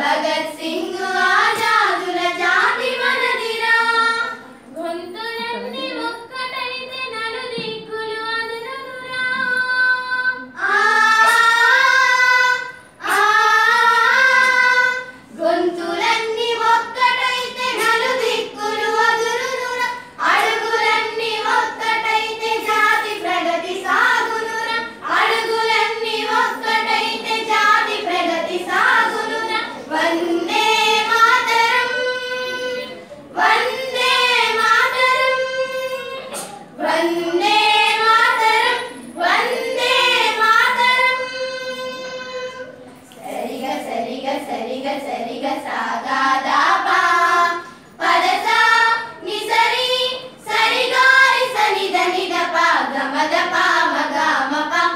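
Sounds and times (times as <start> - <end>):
girls singing together: 0.0 - 54.9.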